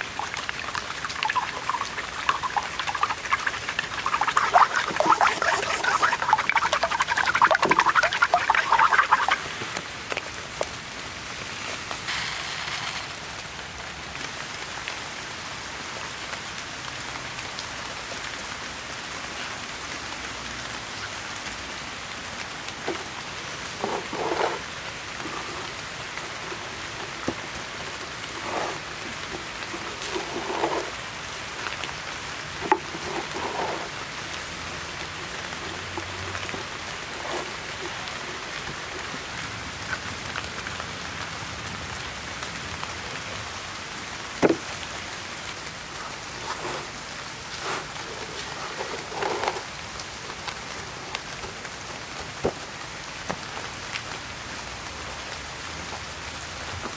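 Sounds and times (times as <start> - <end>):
rain patter: 0.0 - 56.9.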